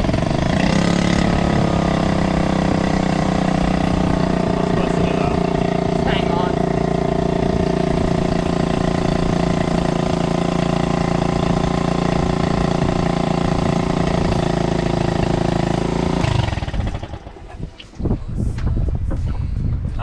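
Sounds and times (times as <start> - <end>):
small outboard motor running: 0.0 - 17.7.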